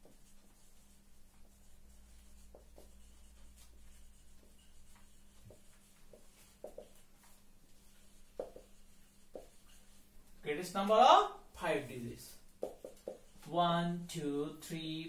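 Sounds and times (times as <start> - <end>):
marker pen writing on a whiteboard: 0.0 - 11.7, 12.4 - 14.2.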